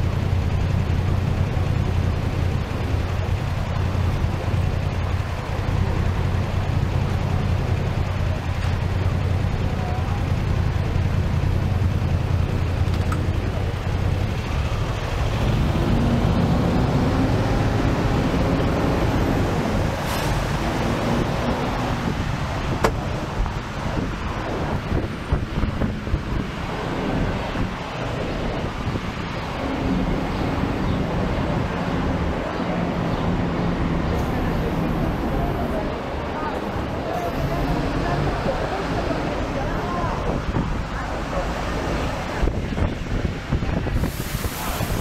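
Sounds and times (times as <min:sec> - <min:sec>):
bus engine and road rumble: 0:00.0 - 0:45.0
low engine tone: 0:00.0 - 0:45.0.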